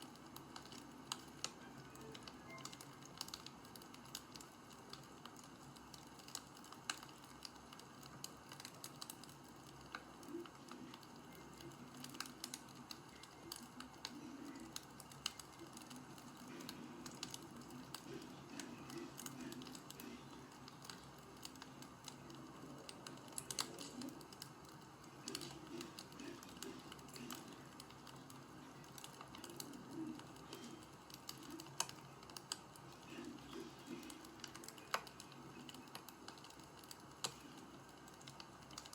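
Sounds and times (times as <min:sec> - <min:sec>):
wood fire pops and snaps: 0:00.0 - 0:38.9.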